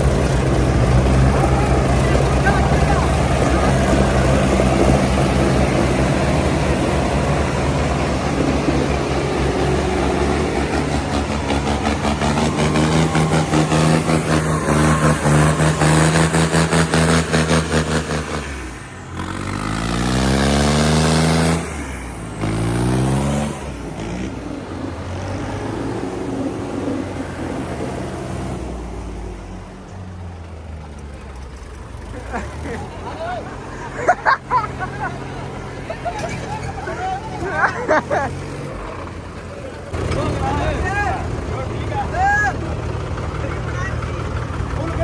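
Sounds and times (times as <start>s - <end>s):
diesel tractor engine throbbing: 0.0s - 29.8s, 31.5s - 45.0s.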